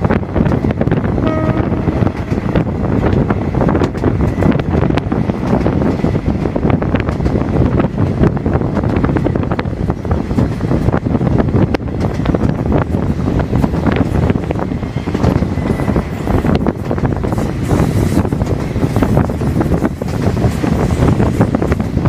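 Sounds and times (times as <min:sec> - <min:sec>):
train wheels clicking on rails: 0:00.0 - 0:01.2, 0:01.9 - 0:22.0
train rumble: 0:00.0 - 0:22.0
wind buffeting microphone: 0:00.0 - 0:22.0.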